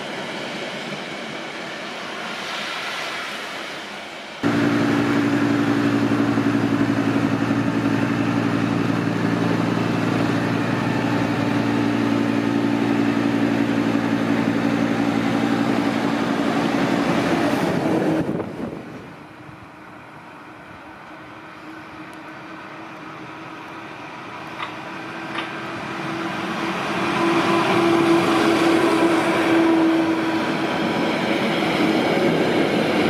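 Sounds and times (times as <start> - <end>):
electric locomotive passing: 0.0 - 33.0.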